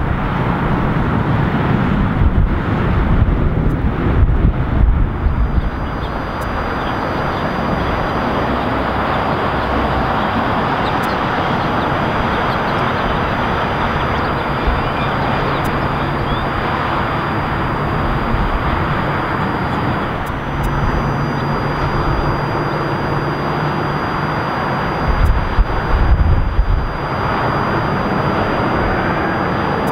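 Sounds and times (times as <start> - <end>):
distant jet engines: 0.0 - 29.9
low hum: 0.0 - 29.9.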